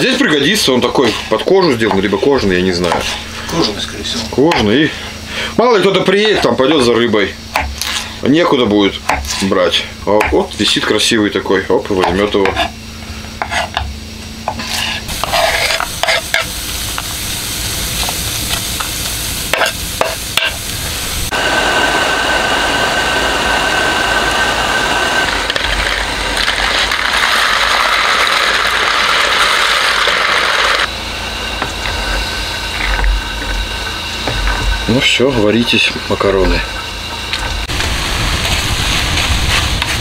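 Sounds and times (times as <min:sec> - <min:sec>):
water boiling in pot: 0:00.0 - 0:13.0, 0:13.7 - 0:40.0
gas stove hissing: 0:00.0 - 0:40.0.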